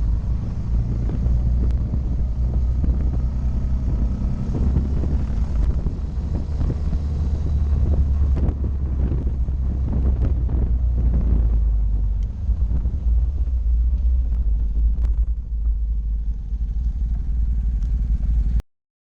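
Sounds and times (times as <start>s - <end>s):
motorcycle engine running: 0.0s - 18.6s
wind rumble on microphone: 0.0s - 18.6s.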